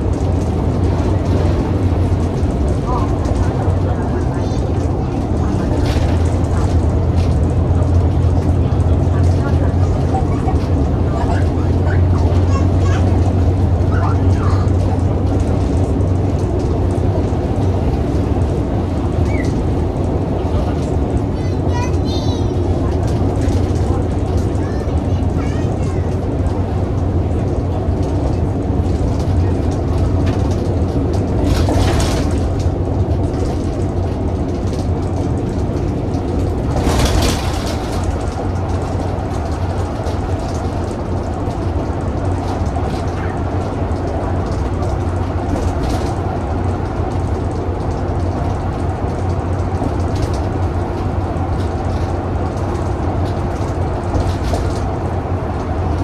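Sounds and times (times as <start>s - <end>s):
bus diesel engine running: 0.0s - 56.0s
road noise: 0.0s - 56.0s.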